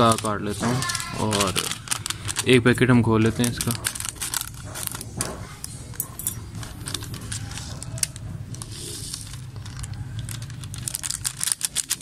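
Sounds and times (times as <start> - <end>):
plastic seed packet crinkling: 0.0 - 5.8, 6.5 - 12.0.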